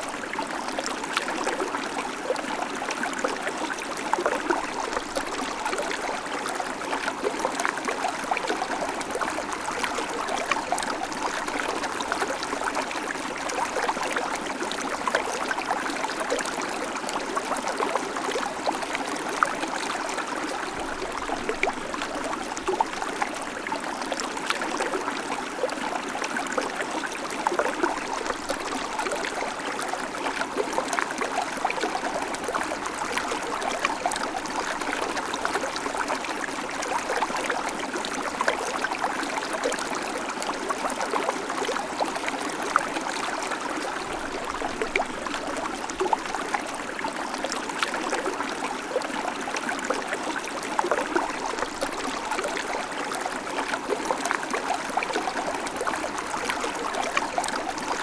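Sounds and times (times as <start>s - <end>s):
creek water over stones: 0.0s - 58.0s.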